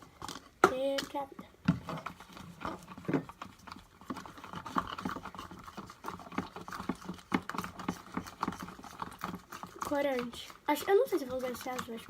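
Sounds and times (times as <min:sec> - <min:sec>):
slime stirred with sticky clicks: 0:00.0 - 0:12.0.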